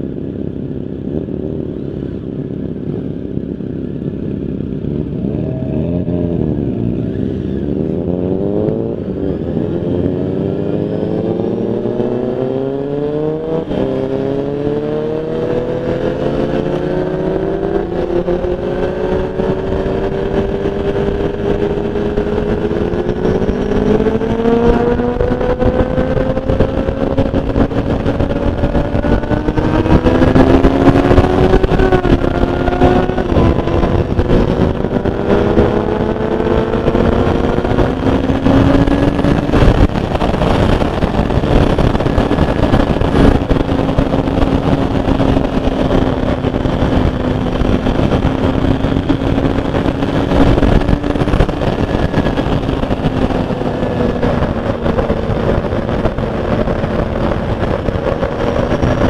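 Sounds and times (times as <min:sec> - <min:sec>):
motorcycle engine accelerating: 0:00.0 - 0:59.0
second motorcycle engine: 0:00.0 - 0:59.0
wind and road noise: 0:00.0 - 0:59.0.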